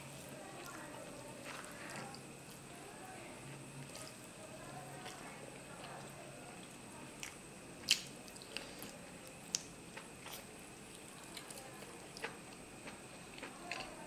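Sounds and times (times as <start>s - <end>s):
close chewing: 0.0s - 2.8s, 3.4s - 14.0s.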